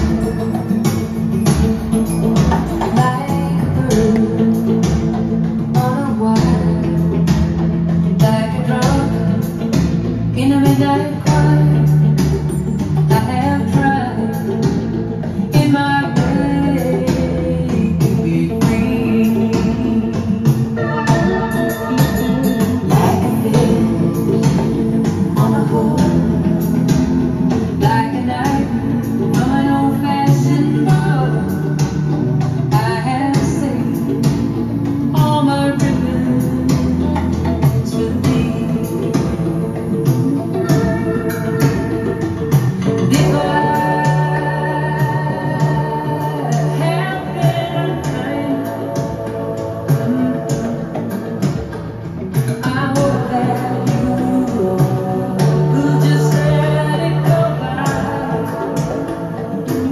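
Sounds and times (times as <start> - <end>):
song with guitar and singing: 0.0 - 59.9.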